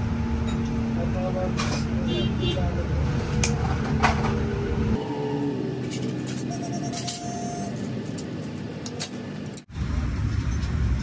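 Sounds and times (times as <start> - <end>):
low machine hum: 0.0 - 9.6.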